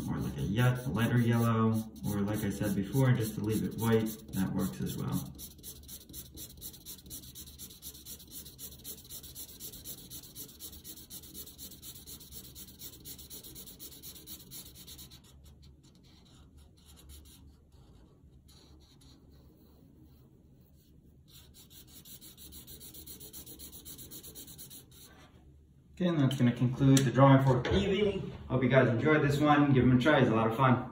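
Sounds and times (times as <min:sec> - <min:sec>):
marker rubbing over paper: 0:00.0 - 0:25.4.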